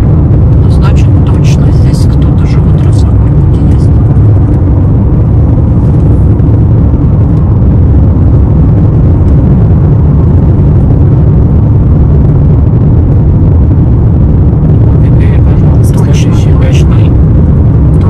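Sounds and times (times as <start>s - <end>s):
car driving rumble: 0.0s - 18.0s.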